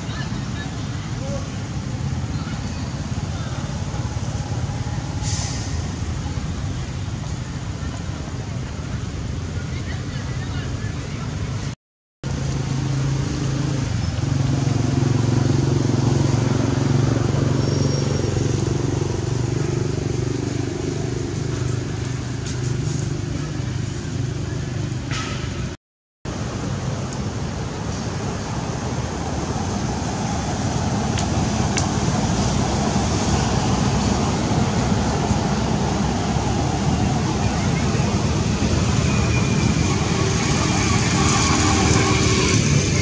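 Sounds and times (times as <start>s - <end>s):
outdoor background noise: 0.0s - 43.0s.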